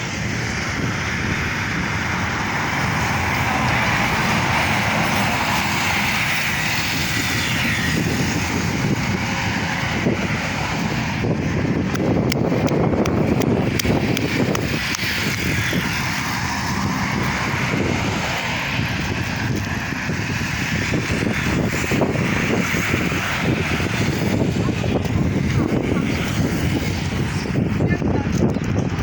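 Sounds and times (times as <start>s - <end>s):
truck engine: 0.0s - 29.0s
truck tyres on road: 0.0s - 29.0s.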